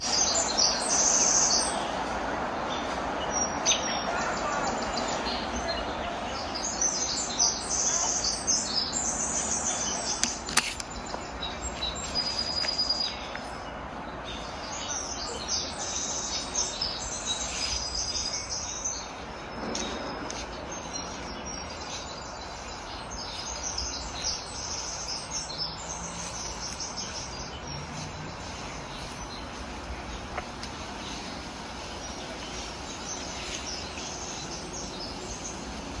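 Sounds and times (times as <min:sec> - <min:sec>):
outdoor background noise: 0:00.0 - 0:36.0
small birds chirping: 0:00.0 - 0:36.0.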